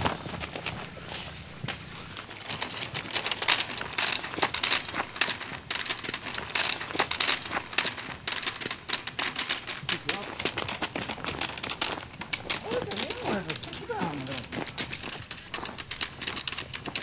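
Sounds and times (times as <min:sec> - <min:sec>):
footsteps crunching on gravel: 0:00.0 - 0:17.0.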